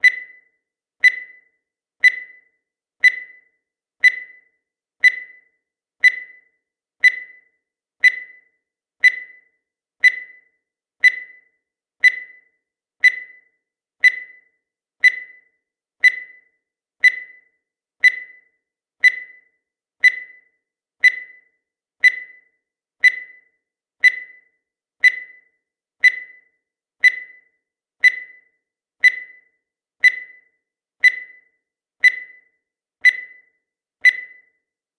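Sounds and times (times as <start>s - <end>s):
high electronic timer beeps: 0.0s - 34.7s.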